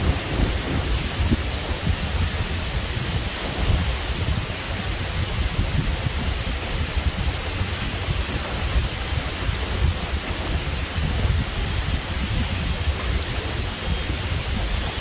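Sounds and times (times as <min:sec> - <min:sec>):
low thunder rumble: 0:00.0 - 0:15.0
steady rain falling: 0:00.0 - 0:15.0.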